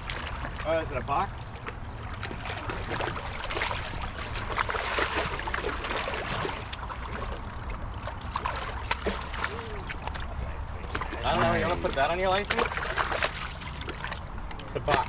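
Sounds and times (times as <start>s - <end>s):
short splashes and knocks: 0.0s - 15.0s.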